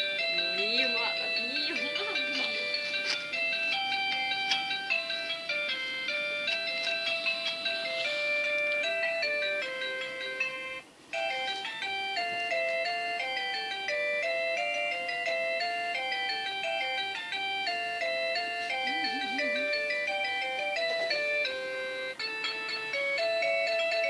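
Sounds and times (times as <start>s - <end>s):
jingle-like tune: 0.0s - 24.0s.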